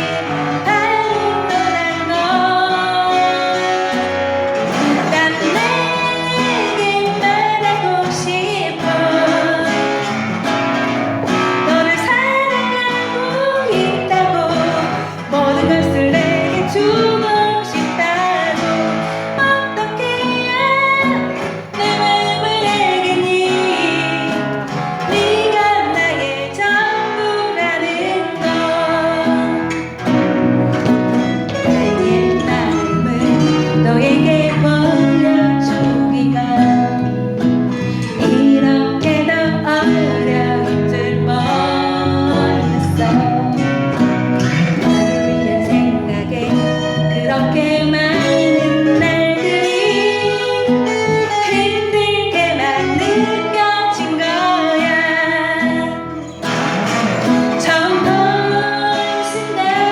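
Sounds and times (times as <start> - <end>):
guitar: 0.0 - 59.9
woman singing: 0.0 - 59.9.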